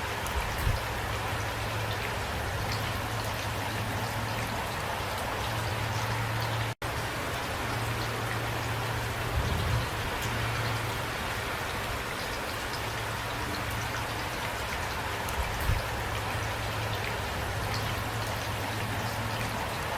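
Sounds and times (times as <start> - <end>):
steady rain: 0.0 - 19.9.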